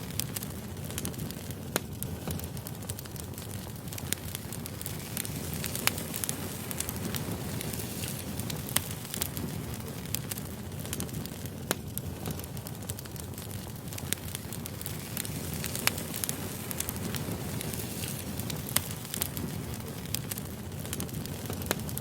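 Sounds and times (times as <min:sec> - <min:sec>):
campfire crackling with pops: 0:00.0 - 0:22.0.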